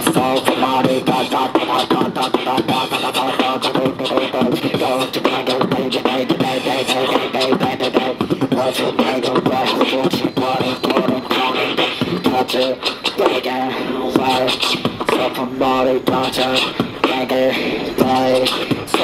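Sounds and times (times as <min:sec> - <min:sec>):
beatboxing kick and snare: 0:00.0 - 0:19.0
pitched vocal tones: 0:00.0 - 0:19.0.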